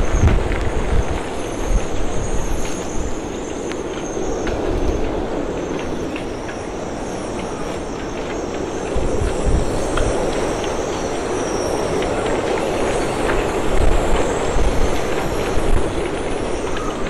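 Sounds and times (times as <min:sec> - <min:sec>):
wind buffeting microphone: 0:00.0 - 0:17.0
wind roaring: 0:00.0 - 0:17.0.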